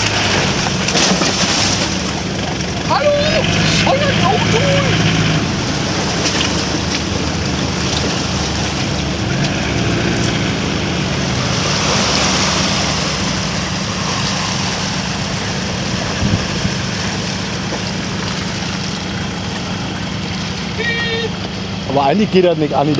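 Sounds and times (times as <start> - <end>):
off-road vehicle engine running: 0.0 - 22.9
water splashing around wheels: 0.0 - 22.9.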